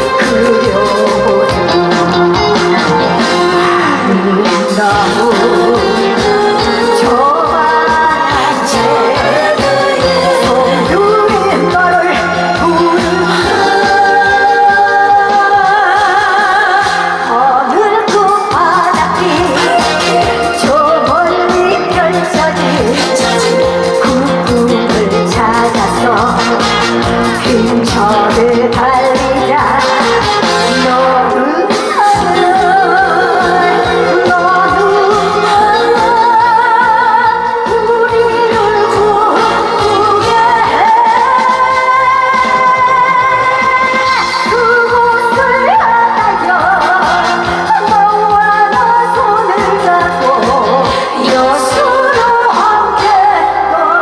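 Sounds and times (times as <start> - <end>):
backing track with steady beat: 0.0 - 54.0
live band music: 0.0 - 54.0
woman singing into microphone: 0.0 - 54.0.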